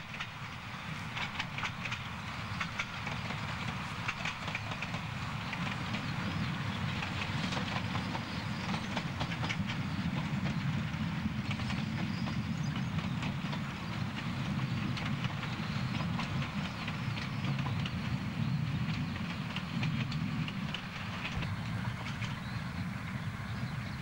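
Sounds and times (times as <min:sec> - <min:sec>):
steam train rumbling past: 0:00.0 - 0:24.0
train wheels clicking and clattering: 0:00.0 - 0:24.0.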